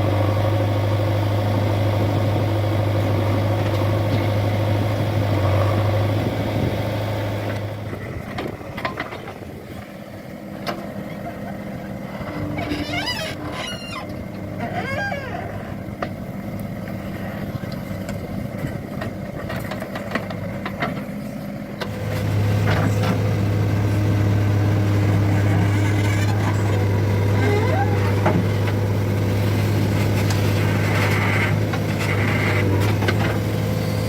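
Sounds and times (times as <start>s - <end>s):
deep engine close by: 0.0s - 34.0s
diesel engines running: 0.0s - 34.0s.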